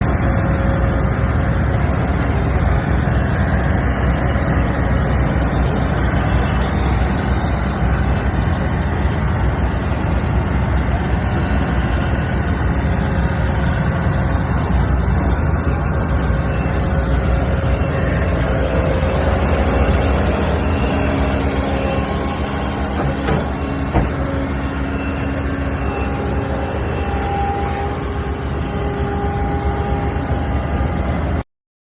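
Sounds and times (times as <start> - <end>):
diesel engine running: 0.0 - 31.4.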